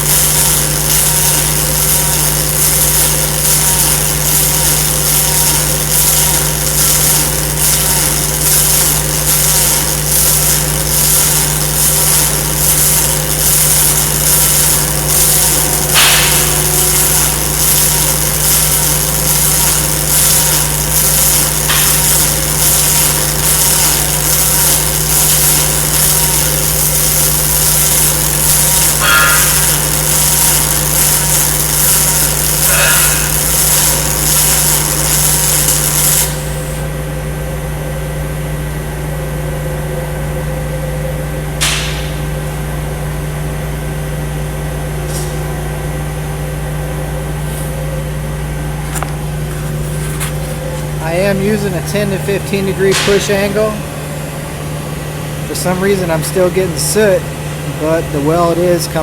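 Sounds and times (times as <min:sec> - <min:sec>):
welding arc crackling hiss: 0:00.0 - 0:37.1, 0:41.6 - 0:59.0
steady hum: 0:00.0 - 0:59.0.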